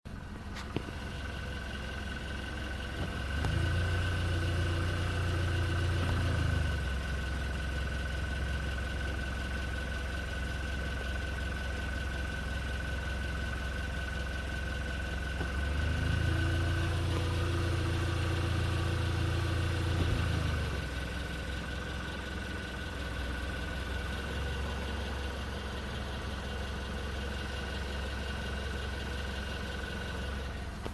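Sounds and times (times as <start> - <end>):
car engine idling: 0.1 - 30.9.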